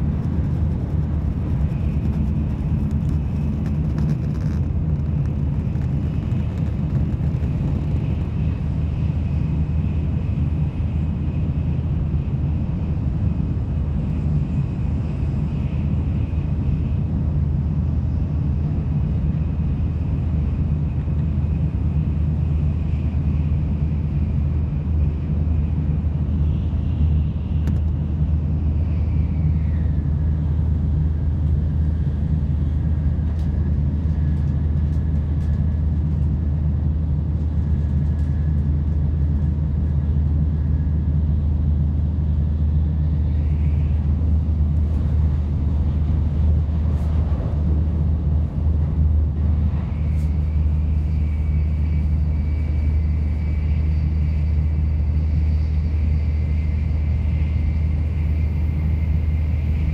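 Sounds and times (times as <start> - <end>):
faint whine: 0.0 - 59.9
train cabin low rumble: 0.0 - 59.9.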